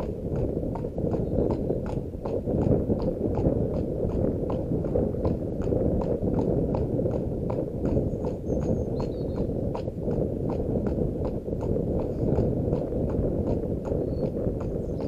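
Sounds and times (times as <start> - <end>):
horse hooves on tarmac: 0.0 - 15.0
low rumble: 0.0 - 15.0.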